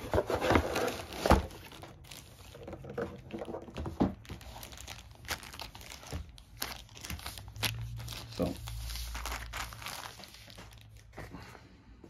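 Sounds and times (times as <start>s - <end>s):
plastic bags crinkling: 0.0s - 11.2s.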